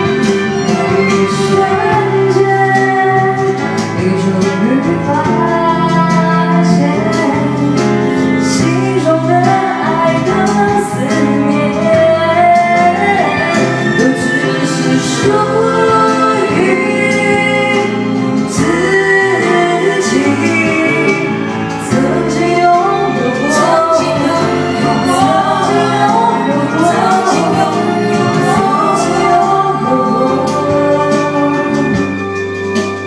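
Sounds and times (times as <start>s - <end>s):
karaoke backing music: 0.0s - 33.0s
woman singing into microphone: 0.6s - 32.3s.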